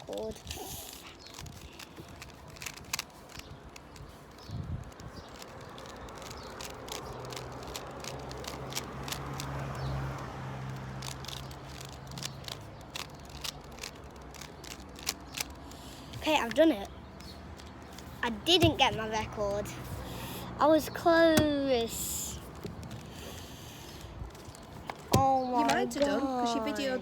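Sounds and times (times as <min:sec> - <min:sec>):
puzzle cube clicking: 0:00.0 - 0:20.2, 0:21.2 - 0:26.2.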